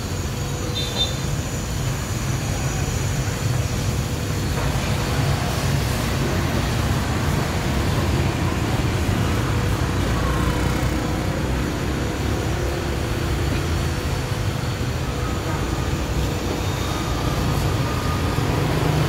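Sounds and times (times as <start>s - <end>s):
scooter and car traffic: 0.0s - 19.0s.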